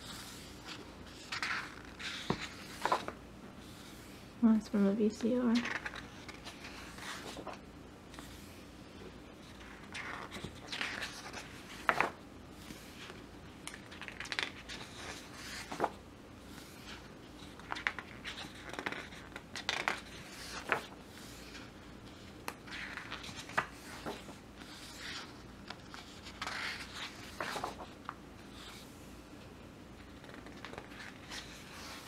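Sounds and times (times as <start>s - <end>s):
book pages being turned: 0.0s - 4.1s, 5.6s - 8.6s, 9.4s - 28.9s, 30.0s - 32.0s.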